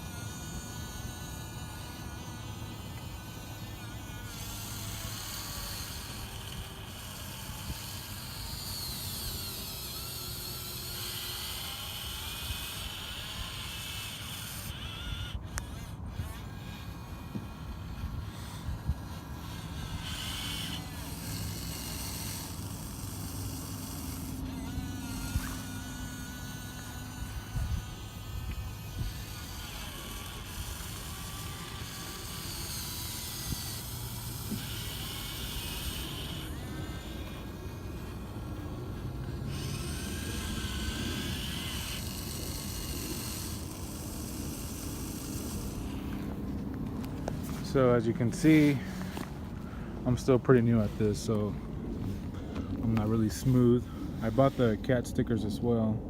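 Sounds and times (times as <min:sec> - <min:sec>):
electric motors whirring: 0:00.0 - 0:56.0
high motor whine: 0:00.0 - 0:56.0.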